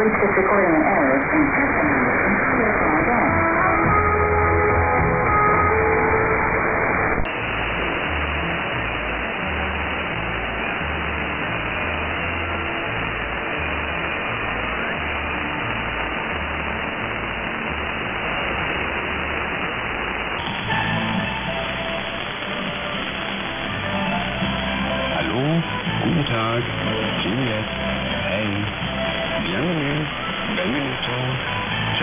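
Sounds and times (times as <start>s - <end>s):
clearer radio music: 0.0s - 32.0s
faint music on radio: 0.0s - 32.0s
radio static hiss: 0.0s - 32.0s.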